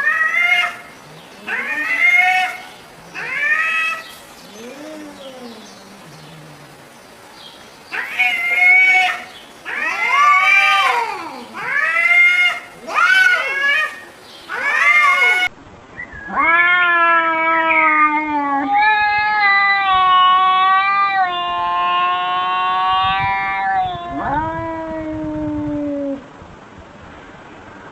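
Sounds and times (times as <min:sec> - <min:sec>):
cat meowing: 0:00.0 - 0:06.1, 0:07.9 - 0:15.5, 0:16.3 - 0:26.2
cat yowling: 0:00.0 - 0:06.8, 0:07.9 - 0:15.5, 0:16.3 - 0:26.2.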